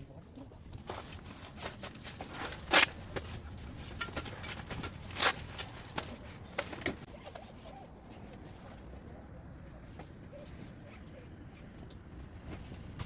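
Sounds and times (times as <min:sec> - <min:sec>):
clicks and rustles of handling: 0:00.1 - 0:13.0.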